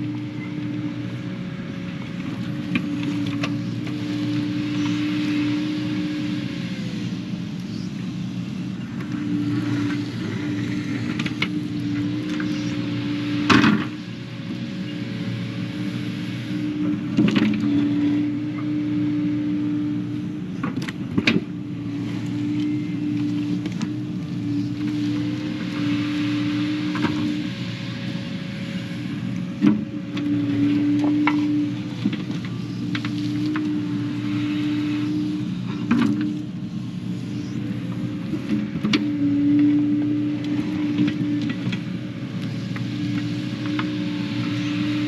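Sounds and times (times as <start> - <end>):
diesel engine running: 0.0 - 45.0
hydraulic whine: 0.0 - 45.0.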